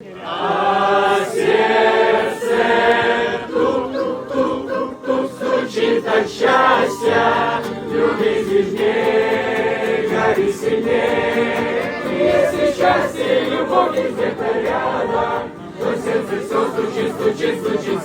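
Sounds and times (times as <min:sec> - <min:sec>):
choir singing cheerful song: 0:00.0 - 0:18.0.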